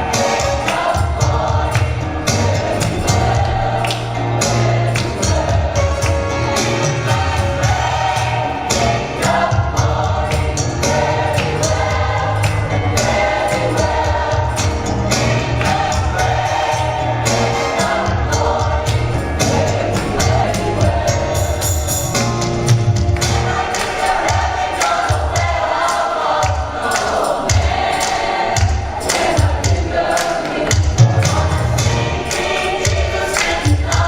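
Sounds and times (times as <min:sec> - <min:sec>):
band with bass and drums: 0:00.0 - 0:25.6, 0:30.7 - 0:34.0
gospel choir singing: 0:00.0 - 0:34.0.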